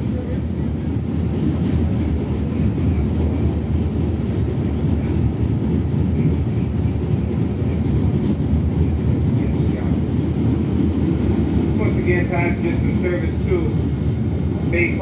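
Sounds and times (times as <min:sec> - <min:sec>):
subway car rumbling on rails: 0:00.0 - 0:15.0.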